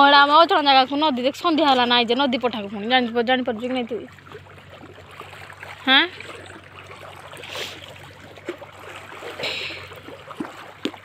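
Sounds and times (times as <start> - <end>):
feet splashing in water: 0.0 - 11.0
water lapping at steps: 0.0 - 11.0.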